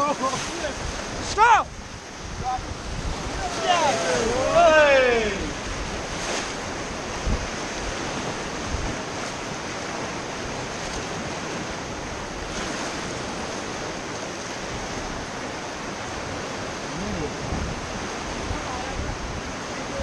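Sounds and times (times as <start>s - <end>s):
river rapids rushing: 0.0s - 20.0s
wind buffeting microphone: 0.0s - 20.0s.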